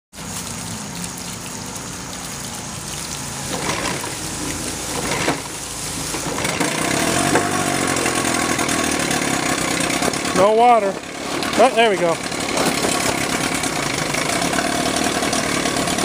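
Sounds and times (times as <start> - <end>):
propeller churning water: 0.1 - 16.0
outboard engine low hum: 0.2 - 16.0.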